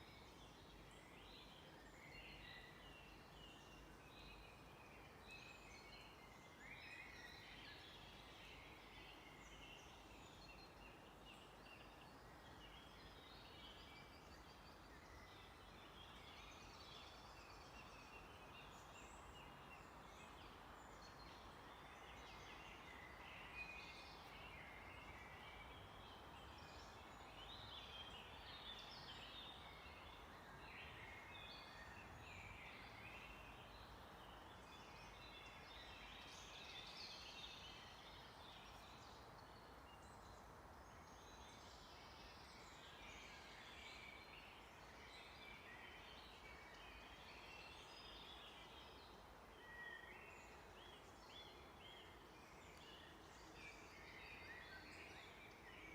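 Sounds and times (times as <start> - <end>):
soft background hiss: 0.0 - 55.9
songbirds chirping and trilling: 0.0 - 55.9.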